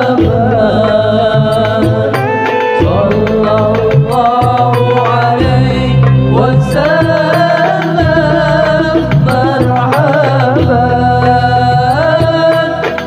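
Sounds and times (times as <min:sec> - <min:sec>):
drums: 0:00.0 - 0:13.0
man chanting into a microphone: 0:00.0 - 0:13.0.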